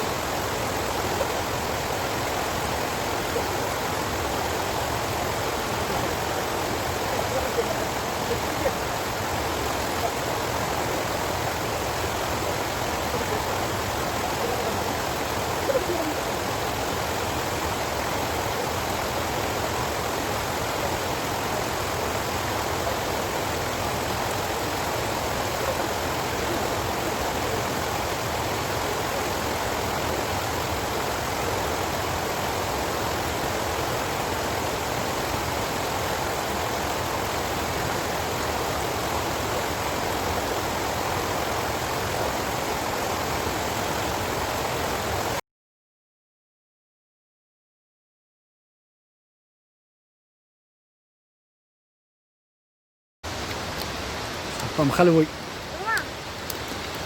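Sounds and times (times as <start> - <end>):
water rushing: 0.0 - 45.4, 53.3 - 57.0.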